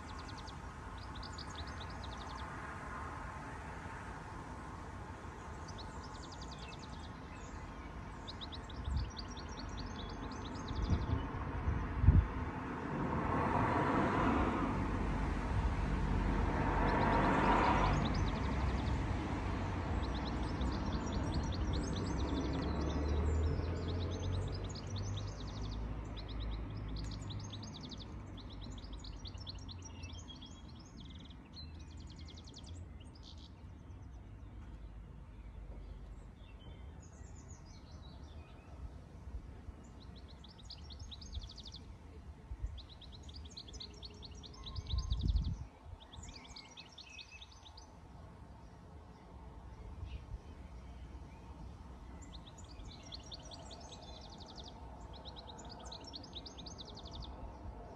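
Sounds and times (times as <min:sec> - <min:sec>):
songbirds trilling and chirping: 0:00.0 - 0:57.9
vehicle passing on road: 0:00.0 - 0:57.9.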